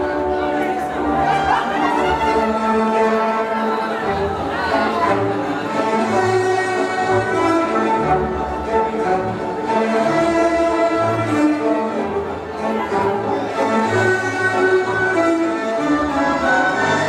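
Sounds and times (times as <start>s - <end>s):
waltz music with bowed strings: 0.0s - 17.0s.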